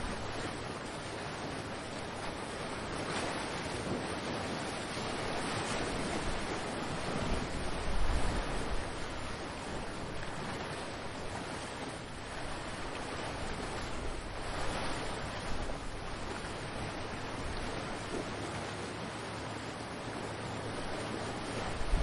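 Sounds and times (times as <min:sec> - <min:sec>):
ocean surf washing ashore: 0:00.0 - 0:22.0.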